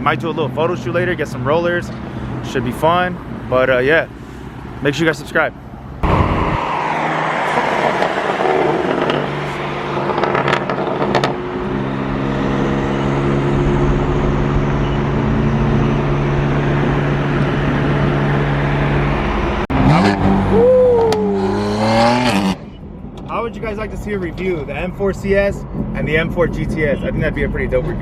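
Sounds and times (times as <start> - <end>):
car engine cruising: 0.0 - 28.0
road and tyre noise: 0.0 - 28.0.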